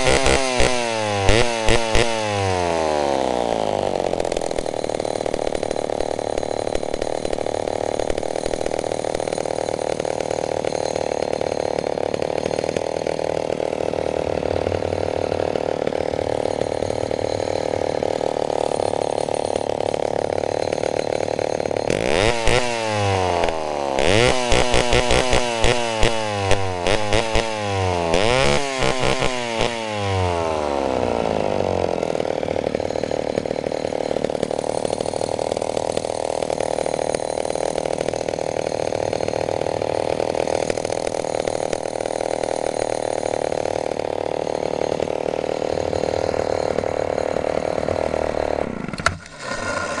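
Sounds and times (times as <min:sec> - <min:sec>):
chainsaw engine revving and idling: 0:00.0 - 0:50.0.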